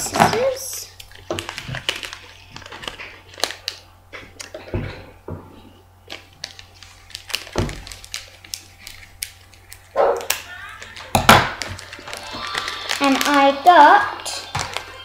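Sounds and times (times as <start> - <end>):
scissors cutting plastic packet: 0.0 - 4.6, 6.1 - 15.0.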